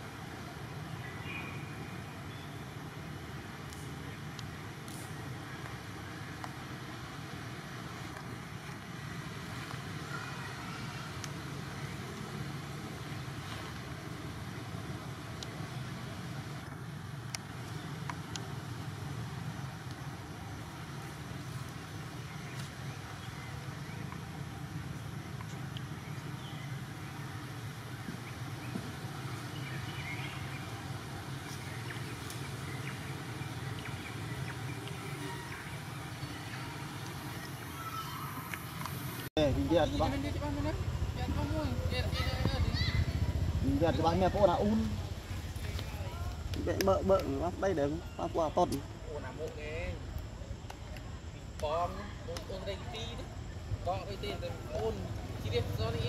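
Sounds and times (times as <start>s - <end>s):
steady low hum: 11.1s - 56.0s.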